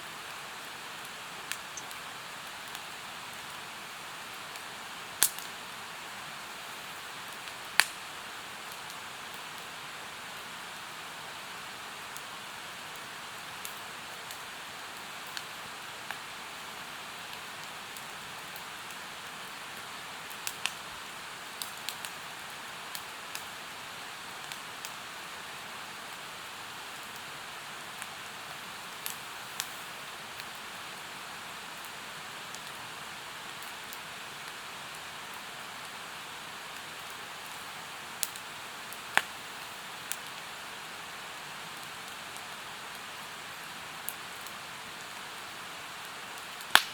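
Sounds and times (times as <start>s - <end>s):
campfire crackling and popping: 0.2s - 5.8s, 6.6s - 10.5s, 11.6s - 46.9s.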